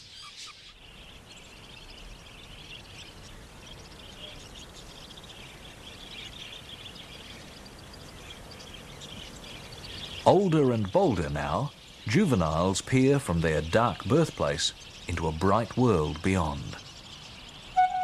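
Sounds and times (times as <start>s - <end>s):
budgerigars chirping: 0.0s - 18.0s
low outdoor ambient hum: 0.6s - 18.0s.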